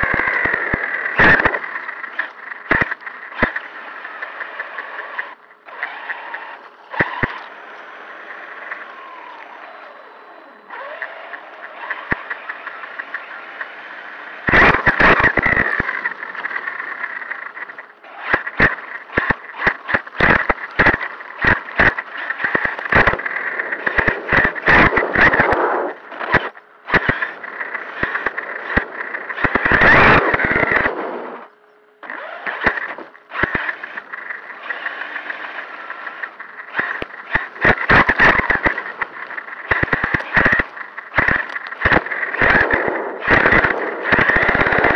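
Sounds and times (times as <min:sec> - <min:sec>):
toy truck motor whine: 0:00.0 - 0:44.9.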